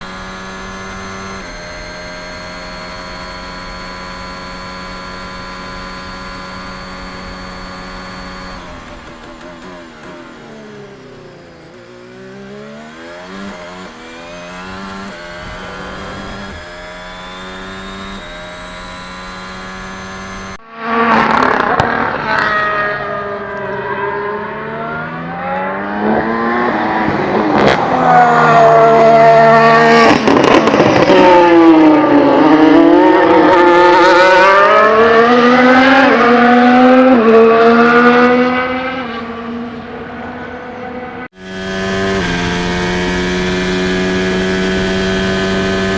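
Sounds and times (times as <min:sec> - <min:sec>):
car accelerating and braking: 0:00.0 - 0:45.9
racing car engines at speed: 0:00.0 - 0:45.9.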